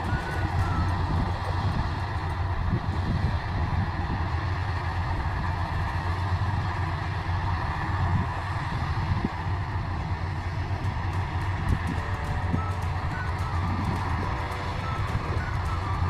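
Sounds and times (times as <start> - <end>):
combine harvester engine humming: 0.0 - 16.0.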